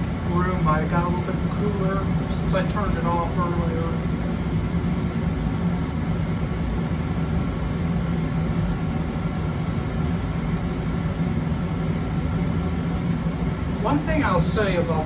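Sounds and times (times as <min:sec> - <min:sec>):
furnace air rush and hum: 0:00.0 - 0:15.0.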